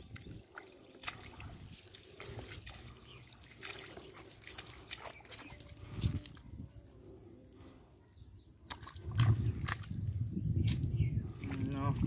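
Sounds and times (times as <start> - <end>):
bare feet splashing in water: 0.0 - 6.6, 8.6 - 12.0.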